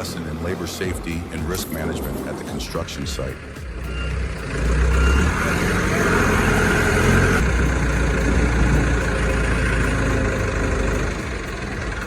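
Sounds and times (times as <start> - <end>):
heavy machinery engine drone: 0.0 - 12.0.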